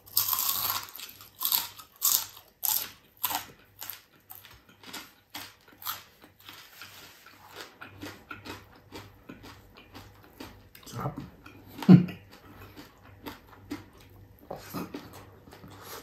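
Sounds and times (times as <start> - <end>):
person chewing crispy fish: 0.0 - 16.0.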